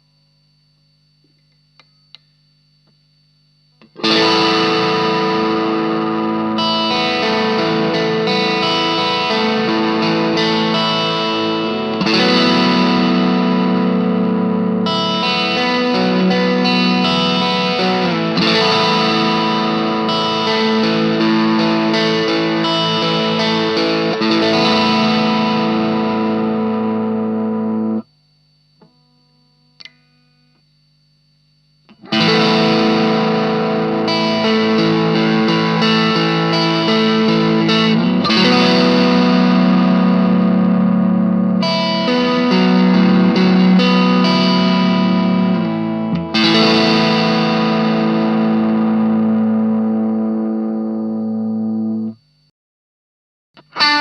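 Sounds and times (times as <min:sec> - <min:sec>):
faint amp hum: 0:00.0 - 0:52.5
overdriven electric guitar chords: 0:03.7 - 0:30.8, 0:31.8 - 0:52.5, 0:53.6 - 0:54.0.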